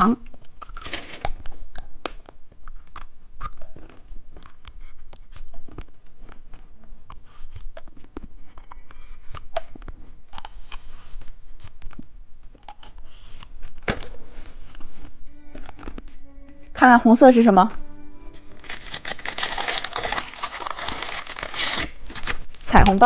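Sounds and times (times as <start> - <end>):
candy crunching and chewing: 0.2 - 16.2, 18.4 - 22.5.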